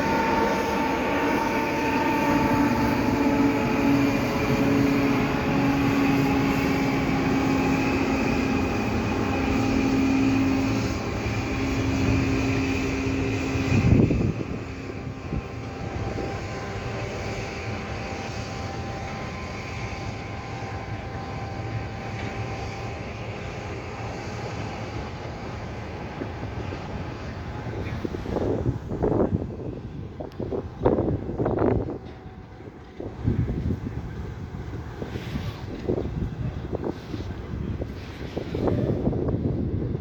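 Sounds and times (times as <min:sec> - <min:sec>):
train running: 0:00.0 - 0:40.0.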